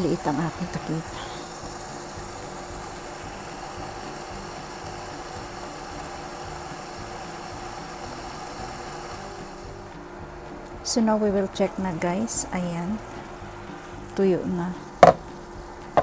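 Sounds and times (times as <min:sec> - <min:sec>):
pan simmering hiss: 0:00.0 - 0:16.0
steady hum: 0:00.0 - 0:16.0.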